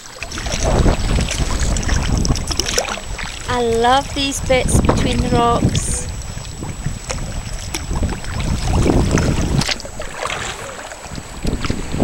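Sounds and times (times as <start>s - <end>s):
kayak paddle splashing: 0.0s - 12.0s
water moving along hull: 0.0s - 12.0s
wind rumbling on microphone: 0.0s - 12.0s.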